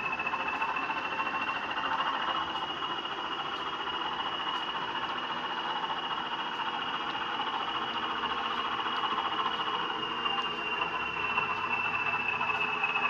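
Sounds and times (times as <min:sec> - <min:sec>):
diesel engine sound from small speaker: 0:00.0 - 0:13.0
model motor and wheel noise: 0:00.0 - 0:13.0
steady high whine: 0:00.0 - 0:13.0.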